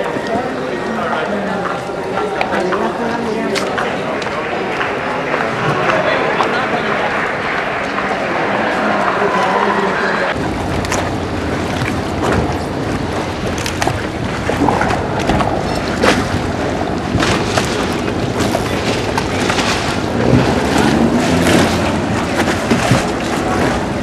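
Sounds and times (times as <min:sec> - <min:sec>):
water from moving boat: 0:00.0 - 0:24.0.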